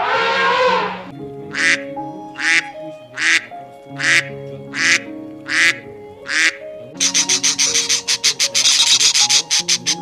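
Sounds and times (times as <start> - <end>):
background music with held notes: 0.0 - 10.0
duck quacking: 0.2 - 1.8, 2.4 - 10.0.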